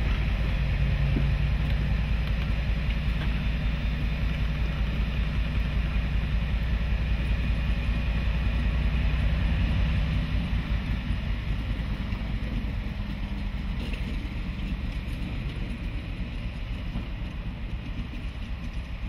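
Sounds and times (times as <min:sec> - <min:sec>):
diesel locomotive engine droning: 0:00.0 - 0:19.0.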